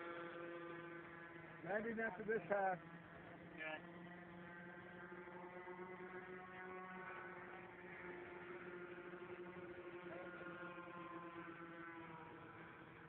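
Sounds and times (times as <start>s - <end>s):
model airplanes buzzing drone: 0.0s - 13.0s.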